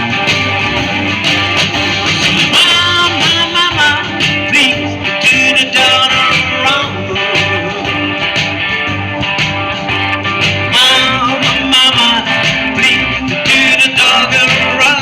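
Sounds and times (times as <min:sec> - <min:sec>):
lead guitar bending notes: 0:00.0 - 0:15.0
live blues band playing: 0:00.0 - 0:15.0.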